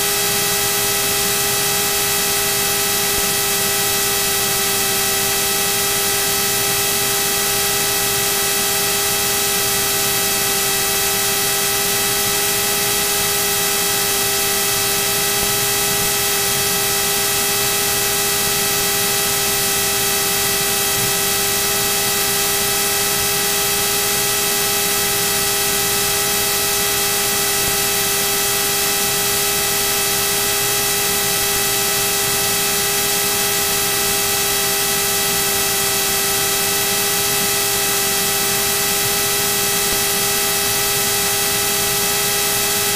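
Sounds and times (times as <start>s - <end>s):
cockpit hiss and humming tones: 0.0s - 42.9s.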